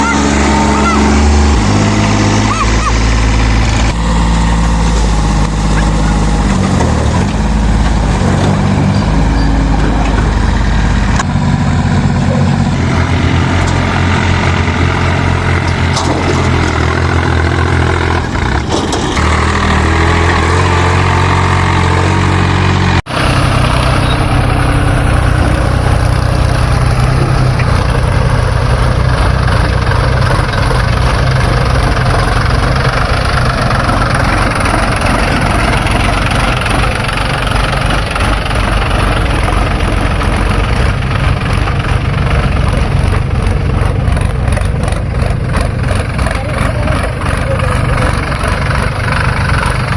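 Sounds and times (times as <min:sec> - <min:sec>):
heavy diesel engines running: 0:00.0 - 0:49.9.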